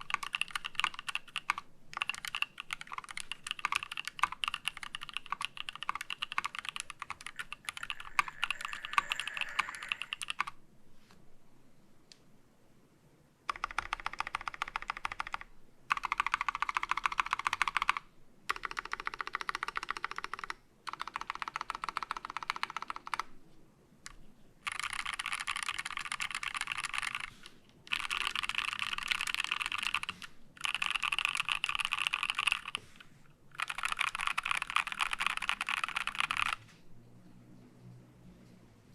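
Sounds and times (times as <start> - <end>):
mechanical keyboard typing: 0.0 - 10.6, 13.5 - 23.3, 24.6 - 32.8, 33.5 - 36.6.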